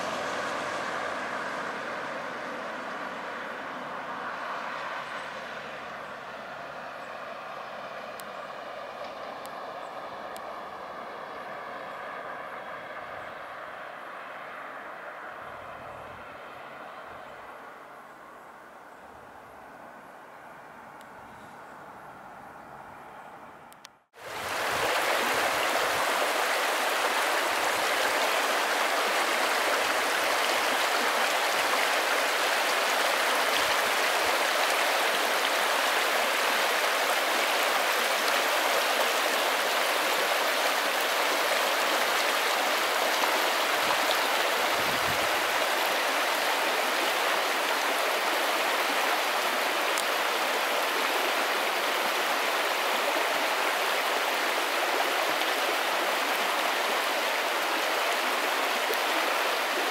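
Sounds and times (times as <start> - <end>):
stream rushing over rocks: 0.0 - 14.5, 24.2 - 59.9.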